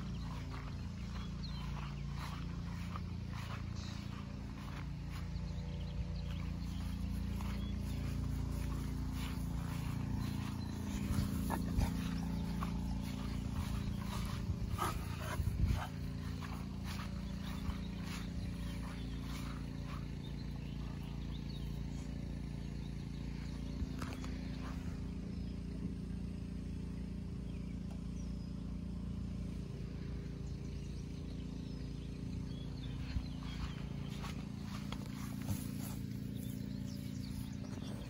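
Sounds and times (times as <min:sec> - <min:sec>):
distant motor humming: 0:00.0 - 0:38.0.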